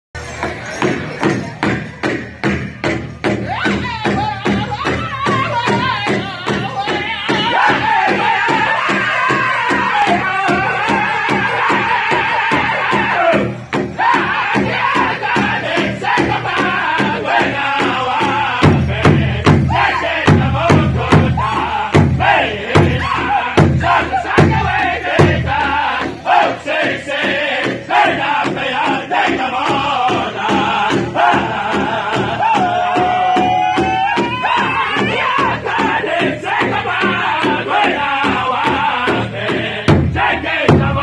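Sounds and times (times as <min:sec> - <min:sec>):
large hide drum beating: 0:00.2 - 0:41.0
men singing together: 0:03.5 - 0:41.0.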